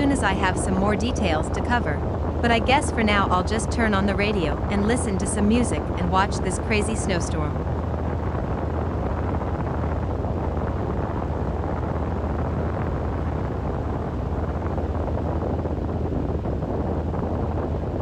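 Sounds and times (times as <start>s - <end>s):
strong blizzard wind: 0.0s - 18.0s
wind rumble on microphone: 0.0s - 18.0s.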